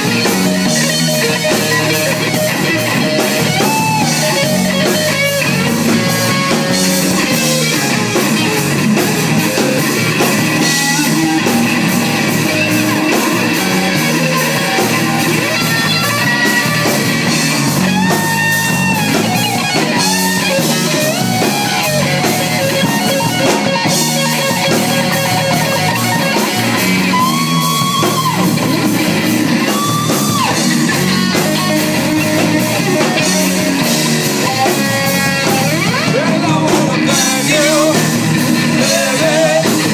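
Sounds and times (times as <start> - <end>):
electric guitar bending notes: 0.0 - 39.9
rock band playing: 0.0 - 39.9.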